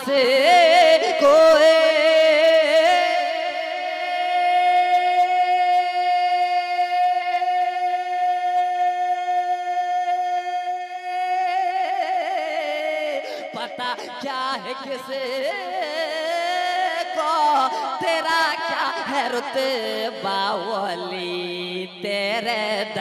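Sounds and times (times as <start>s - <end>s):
man singing devotional song: 0.0s - 23.0s.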